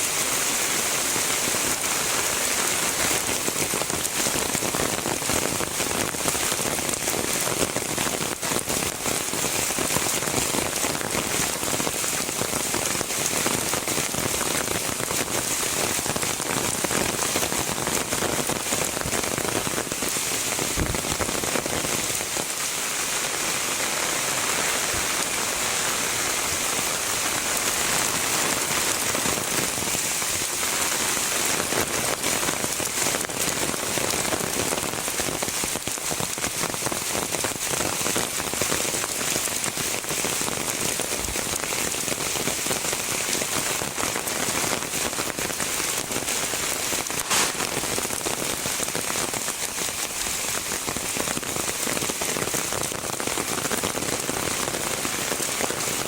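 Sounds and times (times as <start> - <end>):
heavy rain falling: 0.0 - 56.0
raindrops ticking on surfaces: 0.0 - 56.0.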